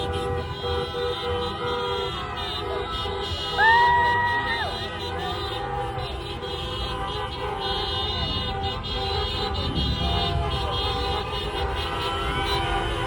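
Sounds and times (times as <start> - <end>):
car horns honking: 0.0 - 13.0
rumble of passing cars: 0.0 - 13.0.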